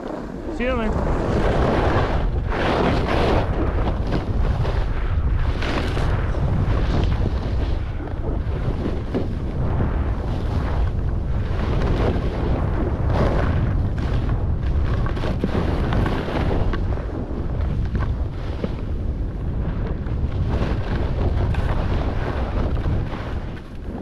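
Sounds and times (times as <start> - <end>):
skis scraping on packed snow: 0.0 - 24.0
wind buffeting microphone: 0.0 - 24.0.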